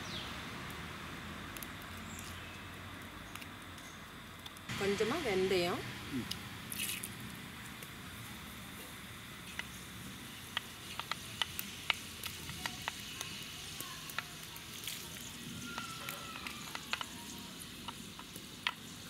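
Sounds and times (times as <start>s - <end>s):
seeds sizzling in hot oil: 0.0s - 19.0s.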